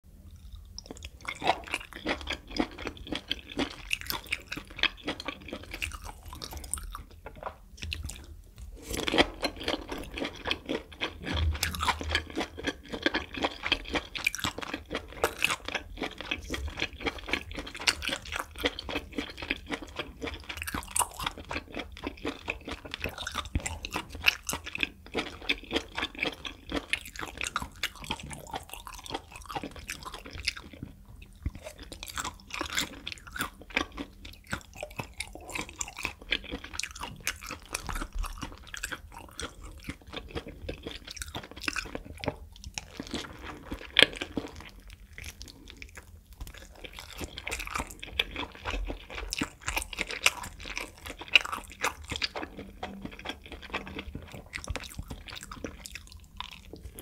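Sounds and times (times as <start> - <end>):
chewing with mouth clicks and smacks: 0.2 - 57.0.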